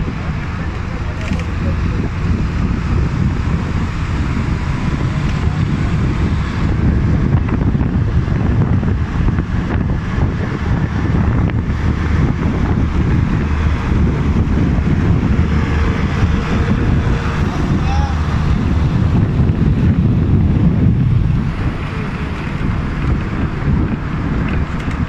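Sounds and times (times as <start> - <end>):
car driving in traffic: 0.0 - 25.0
wind buffeting microphone: 0.0 - 25.0.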